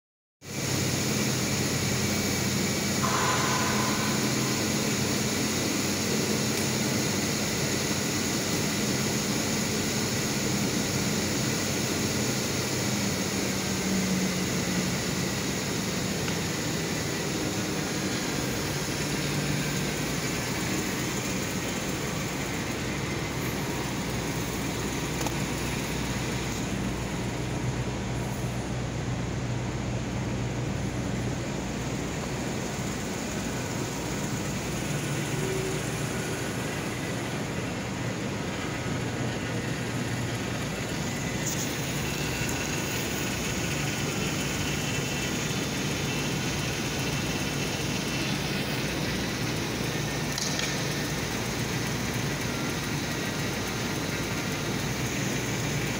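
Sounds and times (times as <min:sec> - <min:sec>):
constant background hum: 0:00.5 - 0:55.9
convertible top motor humming: 0:00.5 - 0:55.9.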